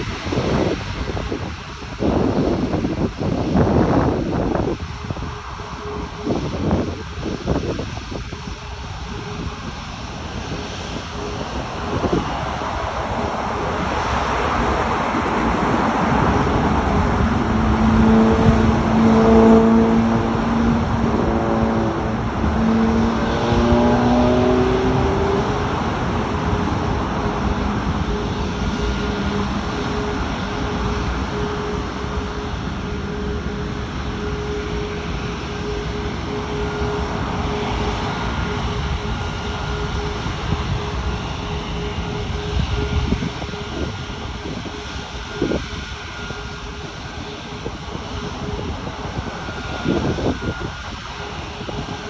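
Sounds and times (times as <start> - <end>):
engine whine: 0.0 - 52.0
jet engines at high power: 0.0 - 52.0.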